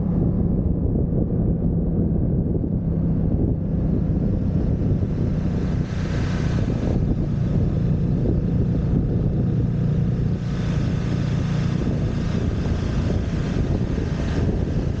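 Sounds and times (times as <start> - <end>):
motorcycle engine cruising: 0.0 - 15.0
wind rushing over microphone: 0.0 - 15.0.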